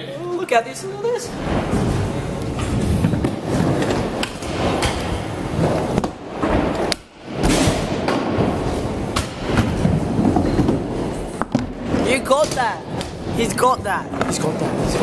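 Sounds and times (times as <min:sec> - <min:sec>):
scooter wheels rolling: 0:01.4 - 0:15.0.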